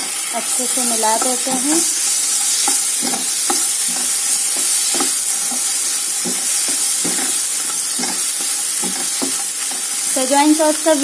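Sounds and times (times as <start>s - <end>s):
spatula scraping pan: 0.0s - 10.6s
food frying in oil: 0.0s - 11.0s.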